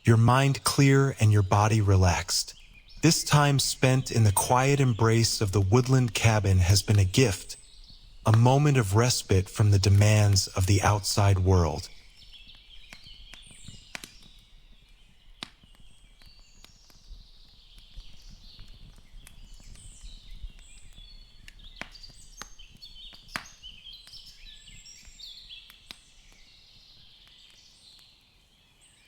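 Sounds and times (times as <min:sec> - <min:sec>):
birds chirping: 0:00.0 - 0:28.0
wood fire crackling: 0:00.0 - 0:28.2.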